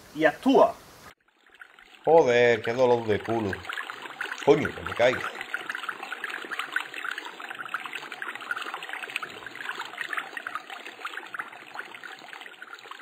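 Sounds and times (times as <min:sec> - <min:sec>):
stream babbling over rocks: 0:01.3 - 0:13.0.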